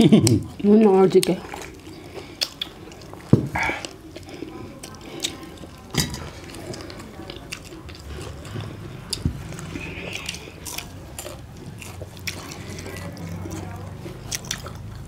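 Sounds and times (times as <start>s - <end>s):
chewing and biting food: 0.0s - 15.0s.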